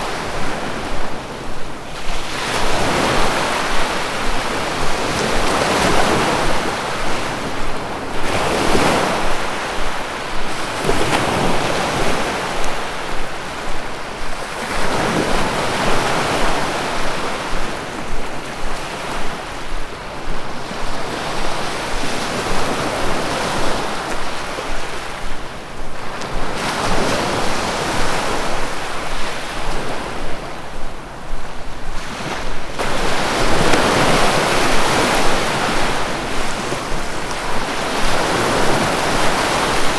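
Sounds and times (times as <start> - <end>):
sea waves breaking on shore: 0.0 - 39.9
wind: 0.0 - 39.9.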